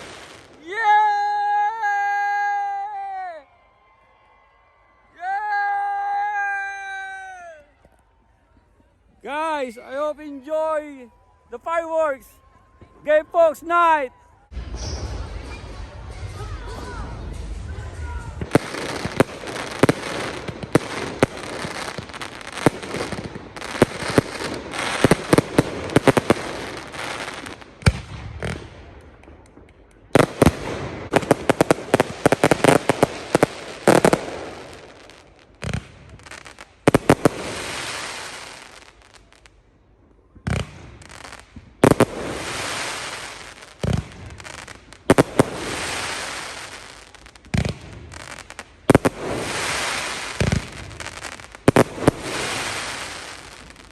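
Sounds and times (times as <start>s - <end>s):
fireworks bangs and crackling: 0.0s - 3.4s, 11.6s - 53.9s.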